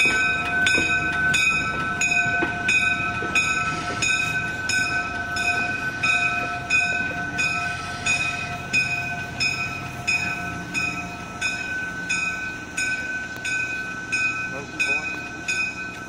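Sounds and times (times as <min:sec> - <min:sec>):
bell ringing: 0:00.0 - 0:16.0
rail diesel car running: 0:00.0 - 0:16.0.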